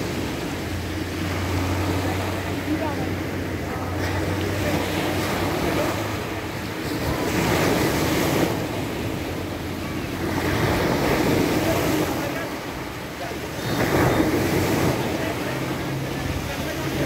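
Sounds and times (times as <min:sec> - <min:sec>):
waves breaking on pebble beach: 0:00.0 - 0:17.0.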